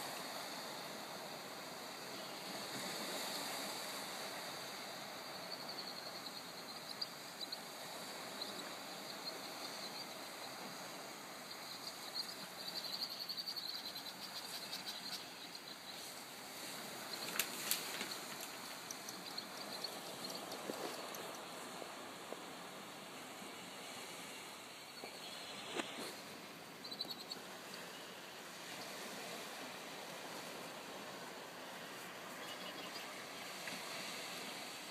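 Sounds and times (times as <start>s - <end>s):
waves washing on shore: 0.0s - 34.9s.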